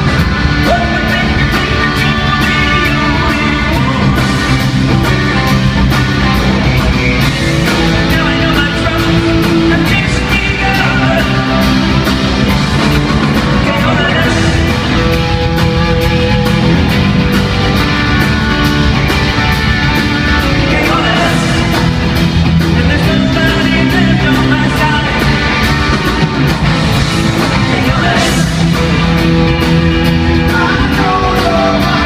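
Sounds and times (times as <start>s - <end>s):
bass guitar: 0.0s - 32.0s
electric guitar: 0.0s - 32.0s.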